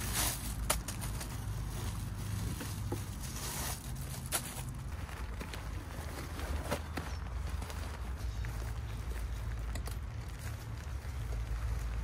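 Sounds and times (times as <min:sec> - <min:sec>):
nylon covers rustling: 0:00.0 - 0:12.0.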